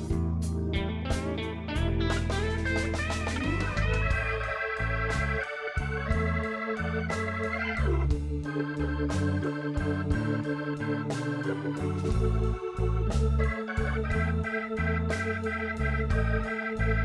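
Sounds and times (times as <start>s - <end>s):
blues organ instrumental: 0.0s - 17.0s.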